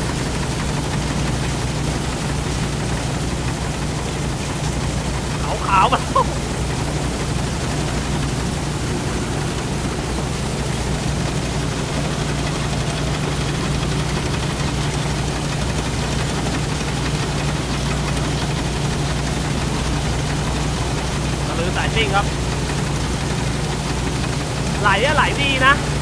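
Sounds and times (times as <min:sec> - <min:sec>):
harvester engine running: 0:00.0 - 0:26.0.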